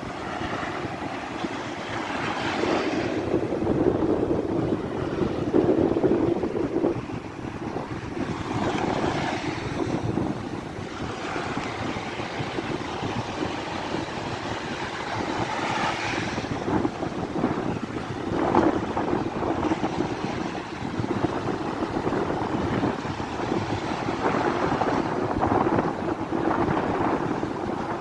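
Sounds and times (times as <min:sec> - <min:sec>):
surf washing over sand: 0:00.0 - 0:28.0
wind noise on microphone: 0:00.0 - 0:28.0.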